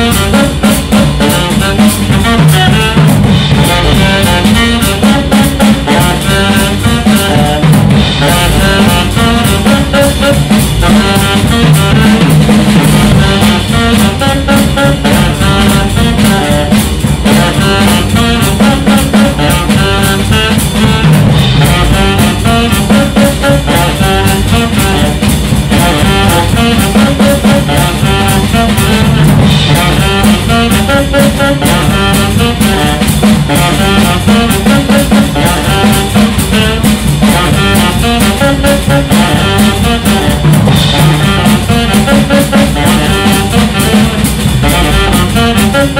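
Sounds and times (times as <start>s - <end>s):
drum kit with rimshots: 0.0s - 45.9s
saxophone lines: 0.0s - 45.9s
walking double bass: 0.0s - 45.9s.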